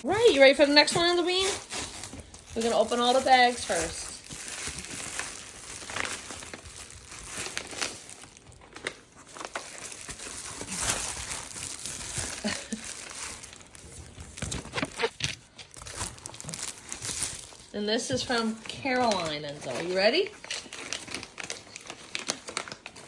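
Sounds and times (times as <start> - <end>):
gift bags rustling and crinkling: 0.0 - 23.0.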